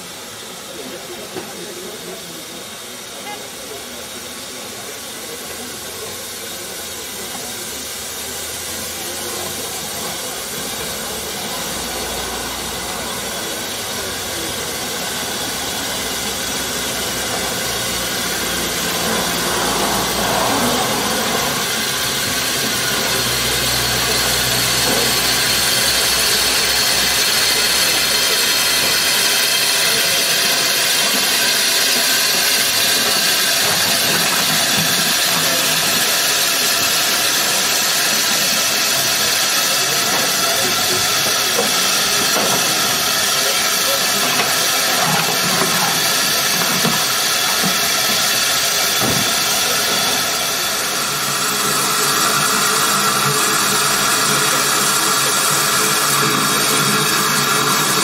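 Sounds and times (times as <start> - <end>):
steam locomotive hissing steam: 0.0 - 58.0.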